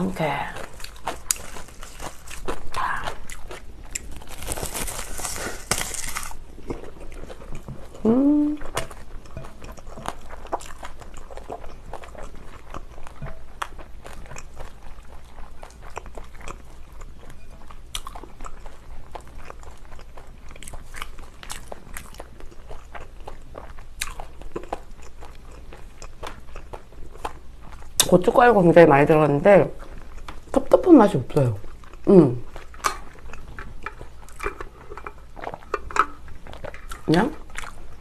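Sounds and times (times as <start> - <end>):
person chewing crunchy food: 0.0 - 28.2, 29.8 - 30.8, 31.4 - 38.0.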